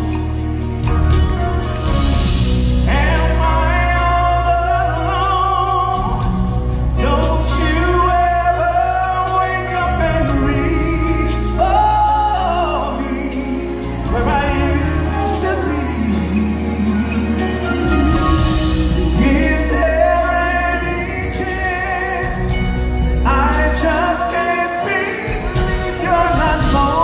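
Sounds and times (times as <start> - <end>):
live band playing r and b ballad: 0.0 - 27.0.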